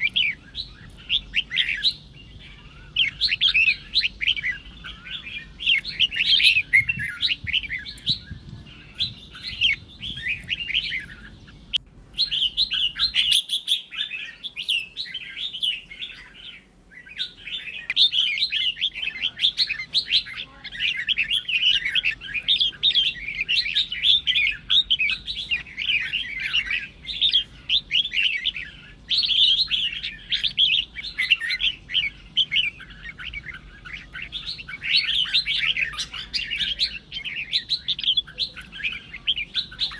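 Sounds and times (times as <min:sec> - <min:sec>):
bird chirping and whistling song: 0:00.0 - 0:39.9.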